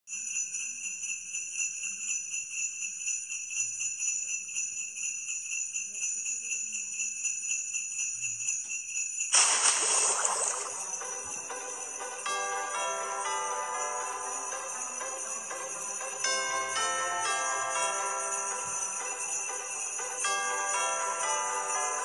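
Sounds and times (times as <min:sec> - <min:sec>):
sleigh bells jingling: 0:00.1 - 0:22.0.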